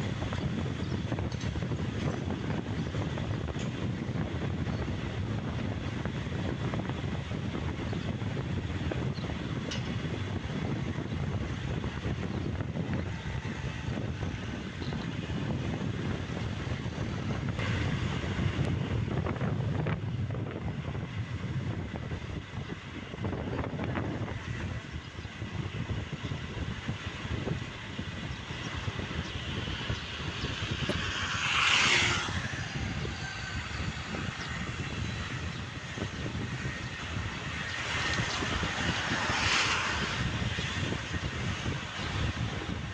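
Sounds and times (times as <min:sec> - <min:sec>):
motorbike engine drone: 0:00.0 - 0:42.9
road and wind rush: 0:00.0 - 0:42.9.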